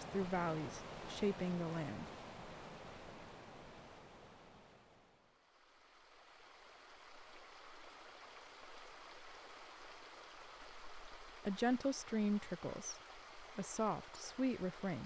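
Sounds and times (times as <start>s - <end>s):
gentle stream trickling: 0.0s - 3.4s, 5.4s - 15.0s
rushing waterfall: 0.0s - 4.6s, 5.5s - 15.0s.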